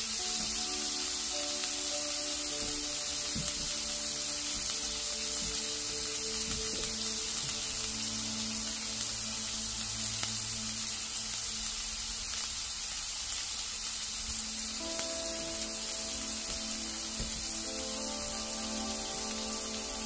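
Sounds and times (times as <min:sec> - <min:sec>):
burger patties sizzling in skillet: 0:00.0 - 0:20.0.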